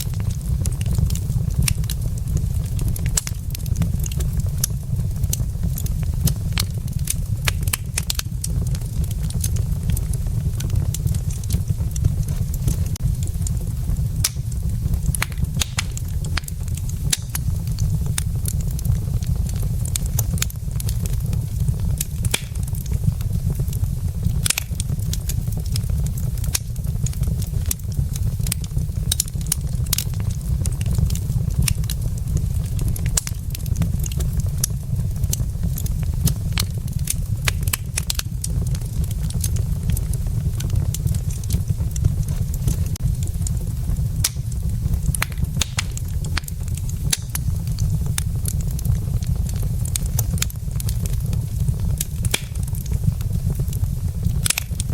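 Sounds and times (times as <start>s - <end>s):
fire crackling and popping: 0.0s - 54.9s
low fire rumble: 0.0s - 54.9s.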